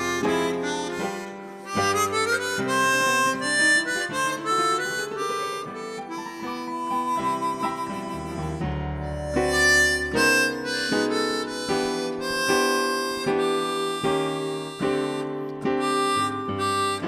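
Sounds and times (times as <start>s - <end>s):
harmonica melody: 0.0s - 17.0s
low held harmonica note: 0.0s - 17.0s.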